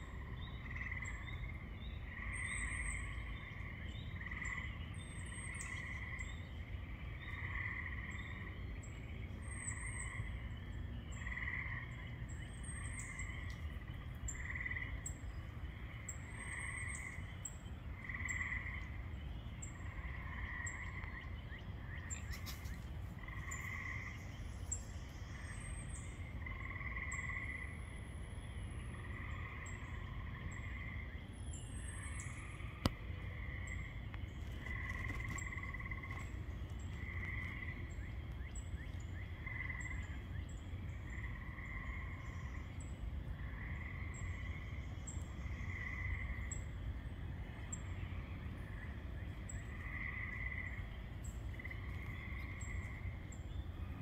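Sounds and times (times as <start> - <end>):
frogs trilling in chorus: 0.0 - 54.0
low steady rumble: 0.0 - 54.0.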